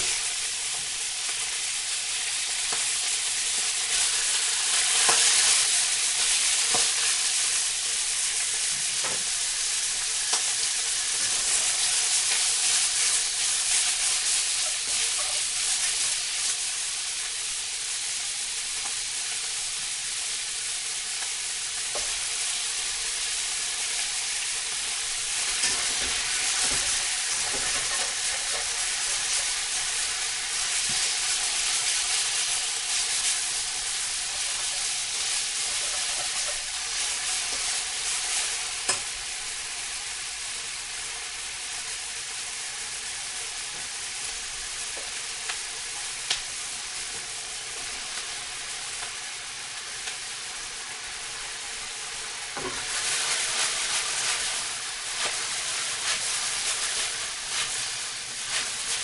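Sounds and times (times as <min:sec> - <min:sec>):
food sizzling in a hot pan: 0:00.0 - 0:59.0.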